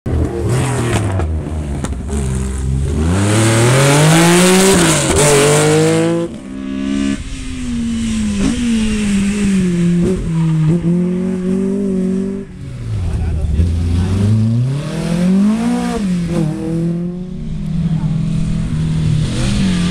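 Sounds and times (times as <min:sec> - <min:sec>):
rally car engines accelerating: 0:00.1 - 0:07.3, 0:07.9 - 0:19.9.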